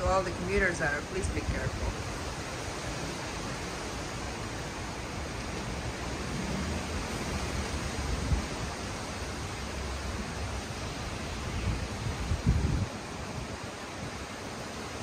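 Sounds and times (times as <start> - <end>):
heavy rain pouring: 0.0 - 15.0
wind rumbling on microphone: 0.0 - 15.0.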